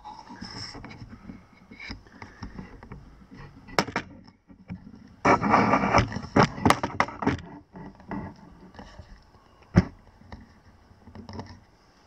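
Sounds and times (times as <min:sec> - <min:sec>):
handling knocks and rustles: 0:00.3 - 0:11.8.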